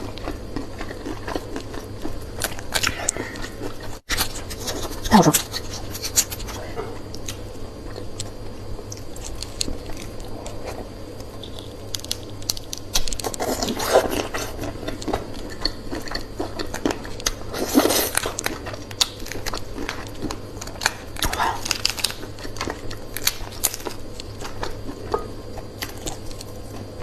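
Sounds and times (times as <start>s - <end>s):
close chewing and crunching: 0.0s - 27.0s.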